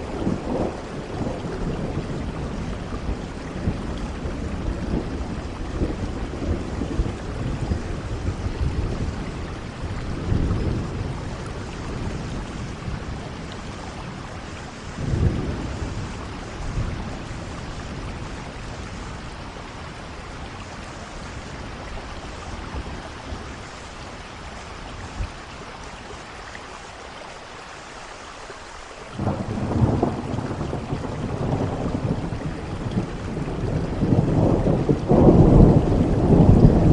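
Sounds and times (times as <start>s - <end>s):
rolling thunder: 0.0s - 25.5s, 29.2s - 36.9s
steady rain: 0.0s - 36.9s.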